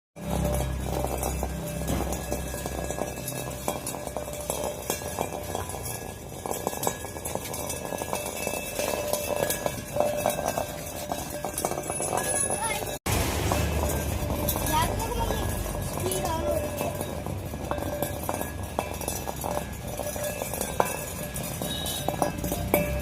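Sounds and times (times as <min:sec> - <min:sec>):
milk bucket rattling and clanking: 0:00.2 - 0:23.0.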